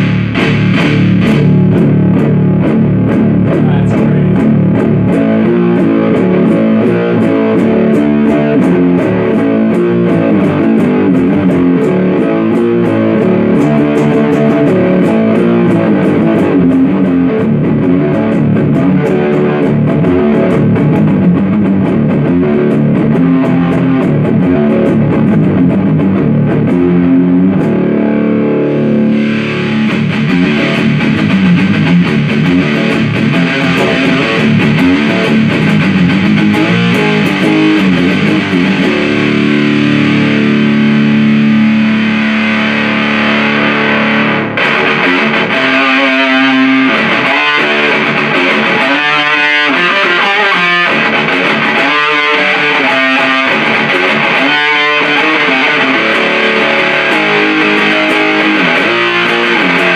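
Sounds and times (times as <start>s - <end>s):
fuzzed electric guitar riffs: 0.0s - 59.9s.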